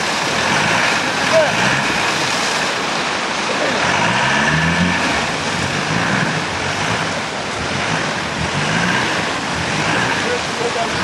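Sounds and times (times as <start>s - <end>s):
vehicle engine under load: 0.0s - 11.0s
water splashing around wheels: 0.0s - 11.0s.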